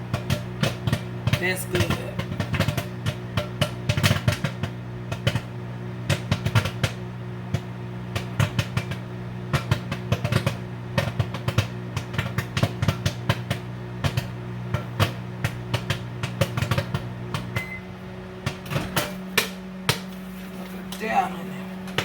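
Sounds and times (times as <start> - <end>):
popcorn popping in a paper bag: 0.0 - 17.7, 18.4 - 21.2
microwave oven hum: 0.0 - 22.0.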